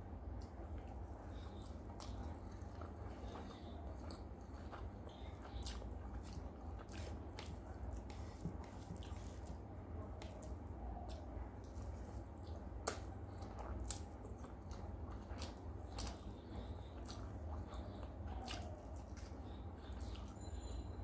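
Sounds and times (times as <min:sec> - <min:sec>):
low steady hum: 0:00.0 - 0:21.0
wet chewing and mouth smacks: 0:00.3 - 0:20.4.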